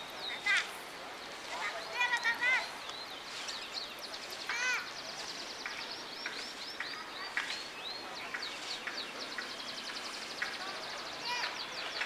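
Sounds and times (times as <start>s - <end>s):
small birds chirping and trilling: 0.0s - 12.0s.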